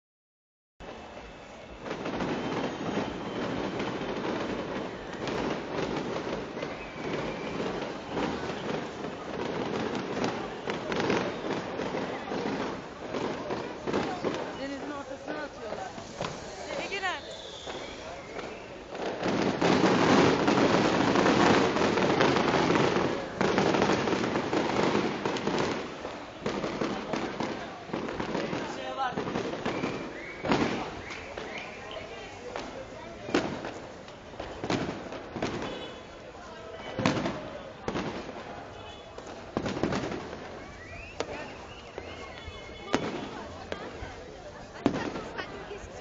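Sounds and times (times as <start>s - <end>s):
fireworks bangs and crackling: 0.8s - 46.0s.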